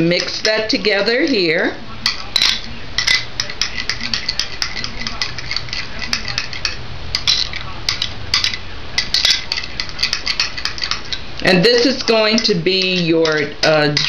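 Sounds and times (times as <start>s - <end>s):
utensil clinking against bowl: 0.0s - 14.0s.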